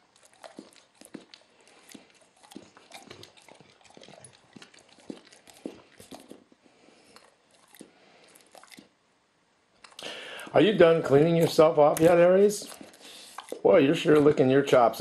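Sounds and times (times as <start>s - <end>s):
dog licking chops: 0.0s - 9.0s, 9.8s - 14.6s.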